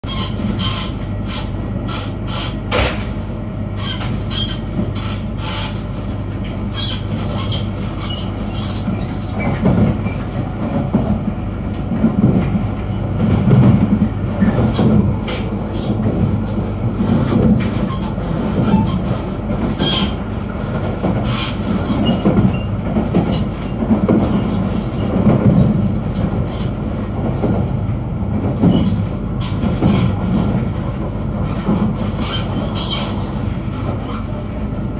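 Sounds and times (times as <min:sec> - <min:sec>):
train rumble inside carriage: 0:00.0 - 0:34.9.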